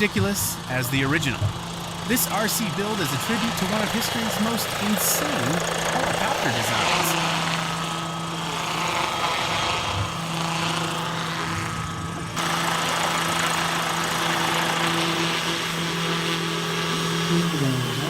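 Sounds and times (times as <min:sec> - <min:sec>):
model helicopter motor humming: 0:00.0 - 0:18.0
rotor wash noise: 0:00.0 - 0:18.0.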